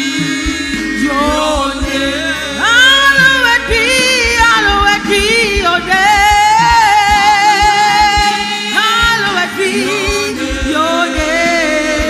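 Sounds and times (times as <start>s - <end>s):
person singing gospel: 0.0s - 12.0s
steady low beat: 0.0s - 12.0s.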